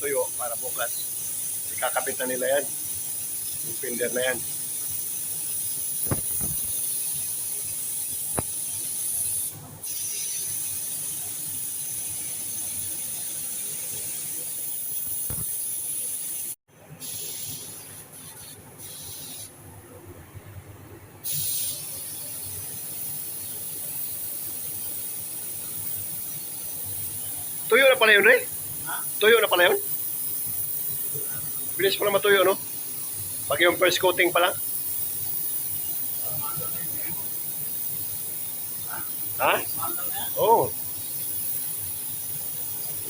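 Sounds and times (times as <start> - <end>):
paint spray gun hissing: 0.0 - 19.5, 21.2 - 43.0.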